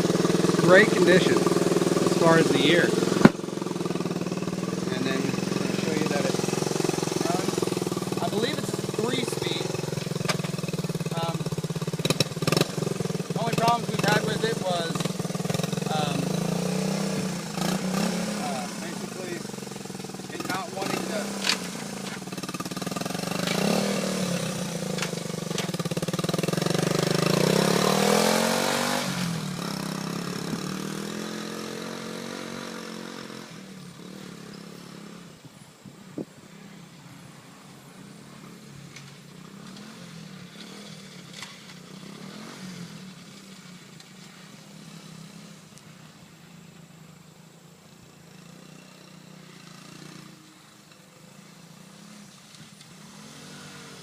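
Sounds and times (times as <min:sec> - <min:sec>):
small motorcycle engine revving: 0:00.0 - 0:54.0.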